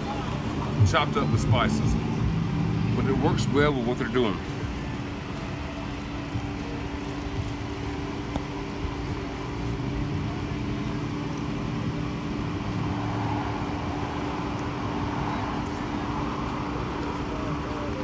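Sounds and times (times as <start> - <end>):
cars passing on a street: 0.0 - 18.0
constant low hum: 0.0 - 18.0.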